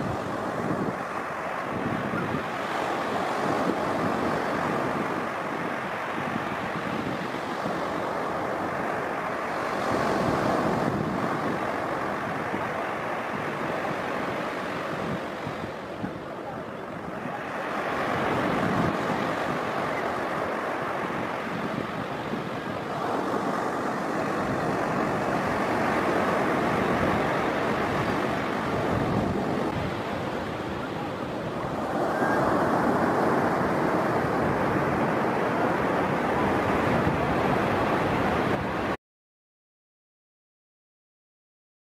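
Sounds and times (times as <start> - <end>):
surf washing on beach: 0.0 - 39.0
wind on microphone: 0.0 - 39.0.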